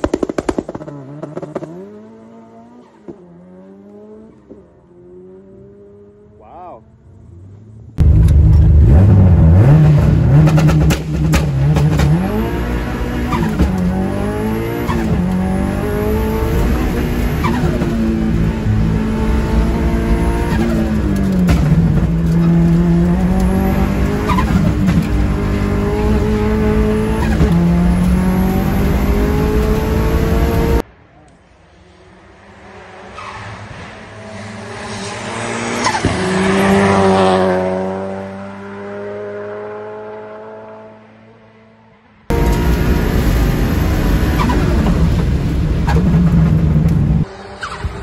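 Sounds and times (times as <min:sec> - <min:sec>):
rally car engine at full throttle: 0:00.0 - 0:48.0.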